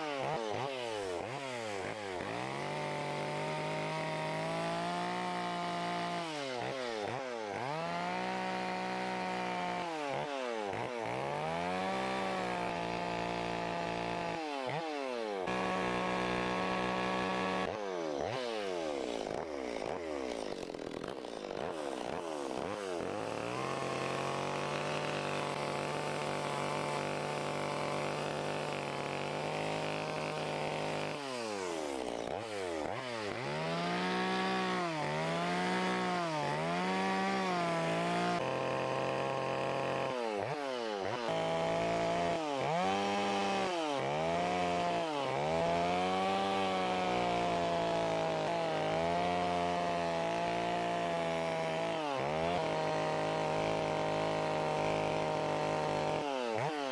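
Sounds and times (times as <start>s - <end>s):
chainsaw revving cutting wood: 0.0s - 56.9s.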